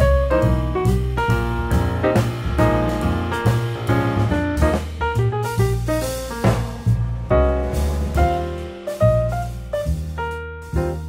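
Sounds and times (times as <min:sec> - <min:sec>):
jazzy piano with bass and drums: 0:00.0 - 0:11.0.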